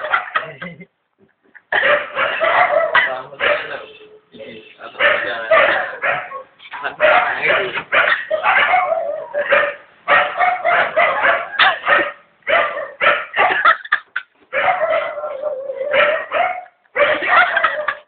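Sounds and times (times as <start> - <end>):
dog barking and yipping: 1.8 - 4.1, 5.0 - 18.0.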